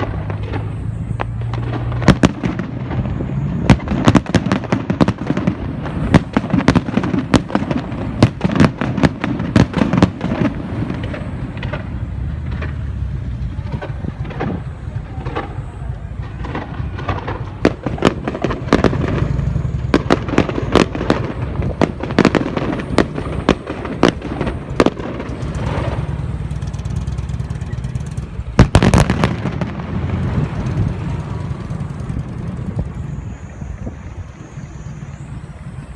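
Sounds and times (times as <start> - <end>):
firework bangs: 0.0 - 35.6
low rumble: 0.0 - 35.9.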